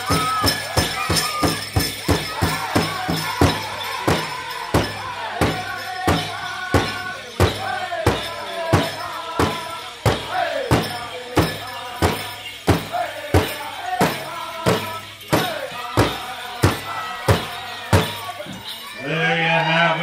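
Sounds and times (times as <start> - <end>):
big drum steady beat: 0.0 - 18.4
singers high wavering voices: 0.0 - 20.0.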